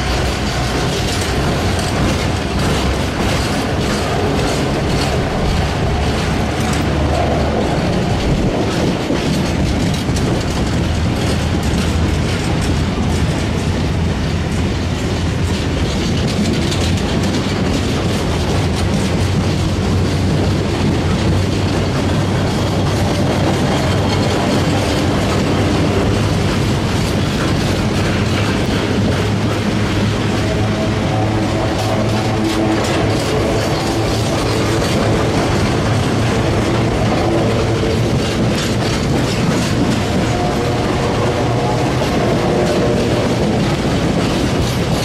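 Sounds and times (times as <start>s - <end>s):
train low rumble: 0.0s - 45.0s
wagon wheels clattering over rail joints: 0.0s - 45.0s.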